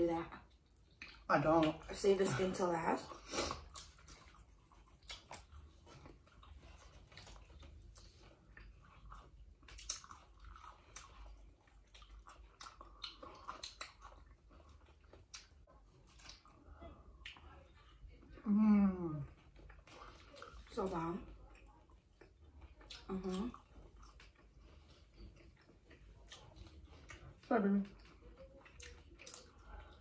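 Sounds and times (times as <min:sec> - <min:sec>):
chewing and biting food: 0:00.2 - 0:18.4, 0:19.2 - 0:30.0.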